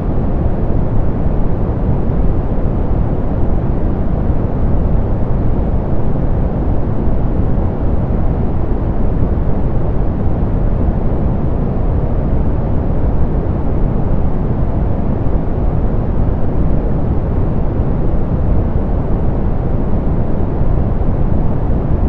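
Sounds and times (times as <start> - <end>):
low-pass filtered pink noise: 0.0 - 22.0.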